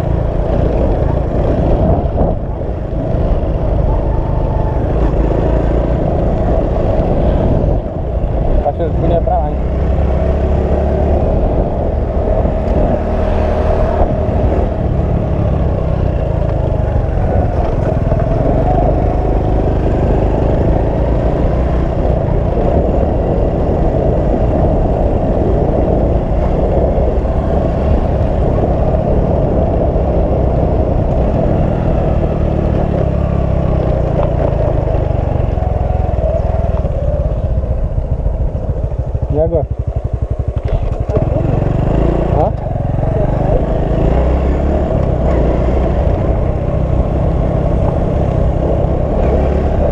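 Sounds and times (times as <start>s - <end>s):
vehicle engine running: 0.0s - 49.9s.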